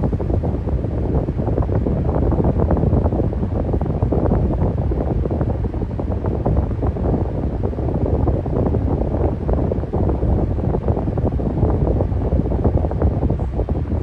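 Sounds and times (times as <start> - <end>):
electric fan wind on microphone: 0.0 - 14.0.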